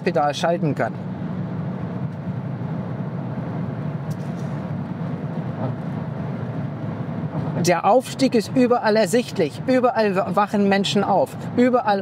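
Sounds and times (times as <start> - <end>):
car interior road drone: 0.0 - 12.0.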